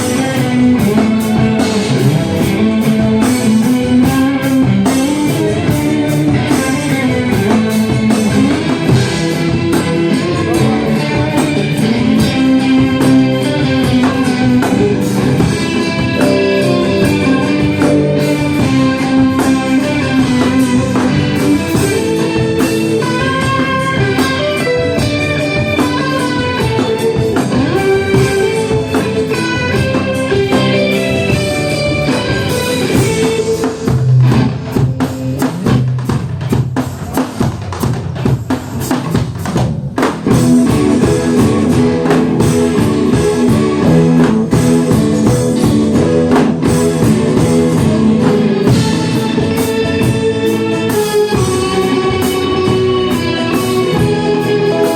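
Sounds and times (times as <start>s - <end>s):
guitar melody: 0.0s - 37.4s, 40.0s - 54.9s
instrumental band music: 0.0s - 54.9s.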